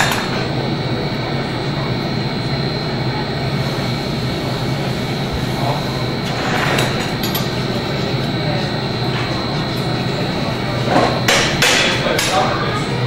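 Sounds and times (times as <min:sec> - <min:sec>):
furnaces and ventilation roaring: 0:00.0 - 0:13.0.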